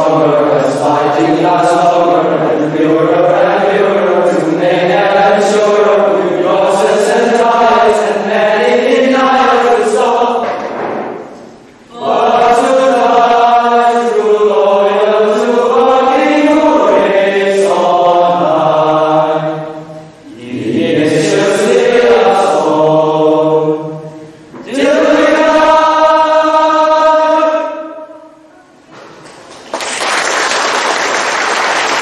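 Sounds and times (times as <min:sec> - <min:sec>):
male choir singing: 0:00.0 - 0:10.7, 0:11.9 - 0:28.5.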